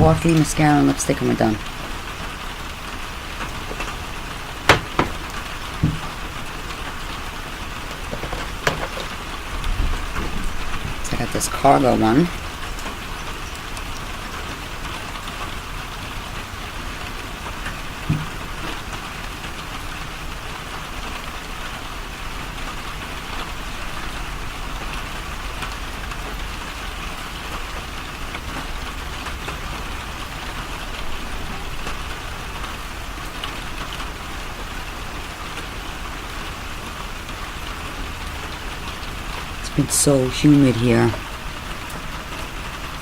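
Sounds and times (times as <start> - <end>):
steady rain hiss: 0.0 - 43.0
raindrop ticks: 0.1 - 43.0.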